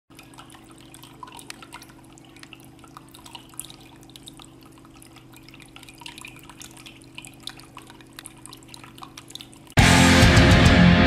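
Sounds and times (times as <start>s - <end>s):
water trickling and dripping: 0.1s - 9.8s.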